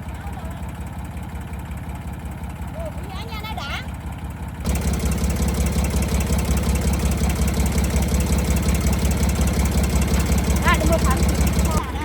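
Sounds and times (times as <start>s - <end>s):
farm vehicle engine running: 0.0s - 12.0s.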